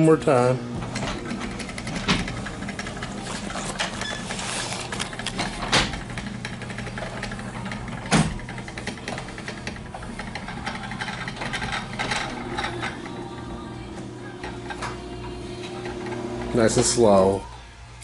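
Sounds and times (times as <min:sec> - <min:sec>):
garage door opener motor humming: 0:00.0 - 0:18.0.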